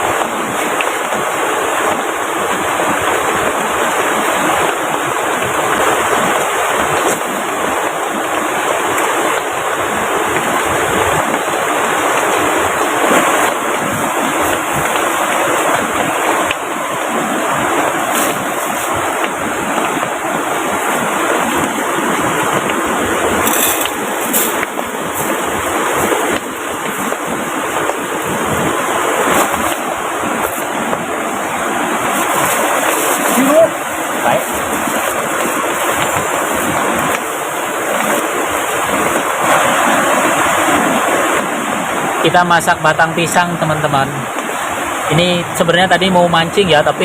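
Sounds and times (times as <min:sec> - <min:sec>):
heavy rain: 0:00.0 - 0:47.0
river rushing: 0:00.0 - 0:47.0.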